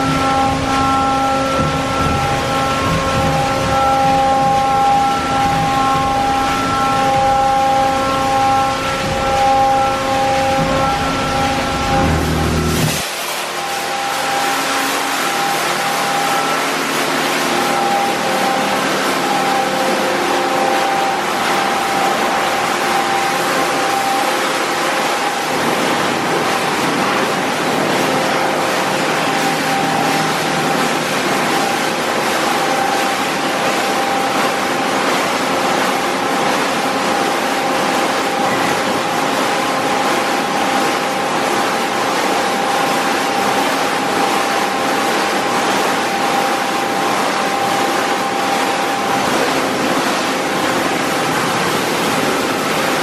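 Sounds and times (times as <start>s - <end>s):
car wash brushes slapping: 0.0s - 53.0s
steady machine whine: 0.0s - 53.0s
water spray: 0.0s - 53.0s.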